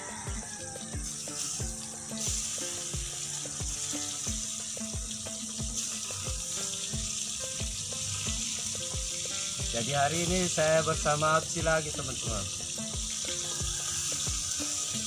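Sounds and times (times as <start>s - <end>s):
background music with steady beat: 0.0s - 15.0s
fruit sizzling in hot oil: 0.0s - 15.0s.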